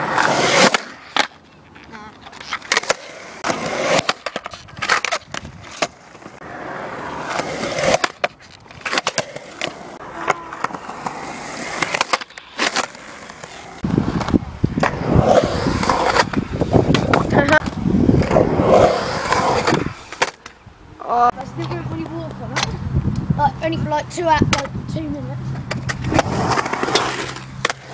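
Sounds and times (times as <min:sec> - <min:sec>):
skateboard wheels rolling on concrete: 0:00.0 - 0:27.9.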